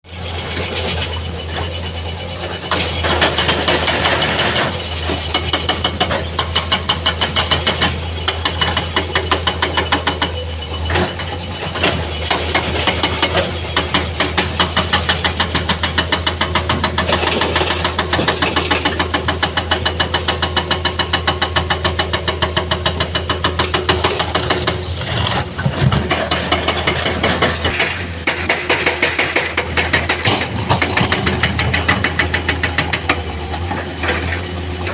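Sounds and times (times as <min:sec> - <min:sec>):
heavy diesel engine throbbing: 0:00.1 - 0:34.9.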